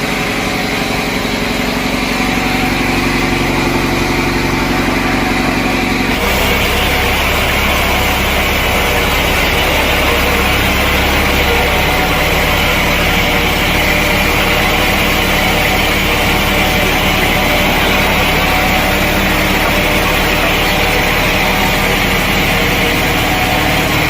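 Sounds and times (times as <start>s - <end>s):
sawmill saw humming and whining: 0.0s - 24.0s.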